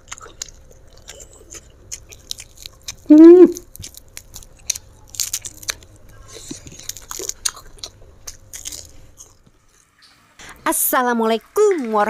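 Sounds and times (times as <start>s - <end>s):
wet chewing with crunches: 0.0s - 10.1s.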